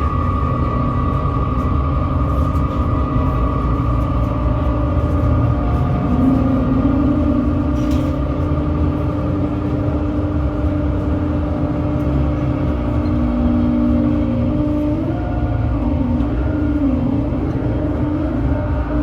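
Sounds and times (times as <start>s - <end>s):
amplified drone: 0.0s - 19.0s
dense low rumble: 0.0s - 19.0s.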